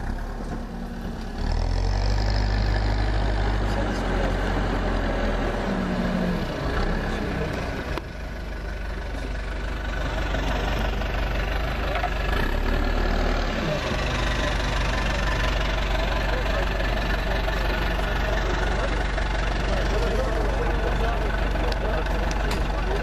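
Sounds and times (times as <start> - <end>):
diesel engine idling: 0.0 - 23.0
voices: 1.8 - 23.0.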